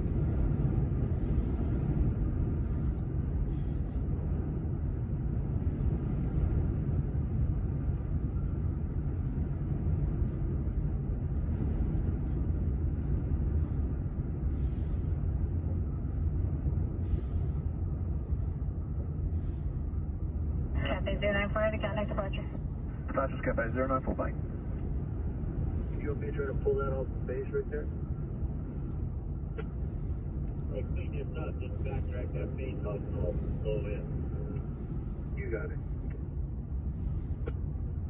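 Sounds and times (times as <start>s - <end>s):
jet engines deep rumble: 0.0s - 38.0s.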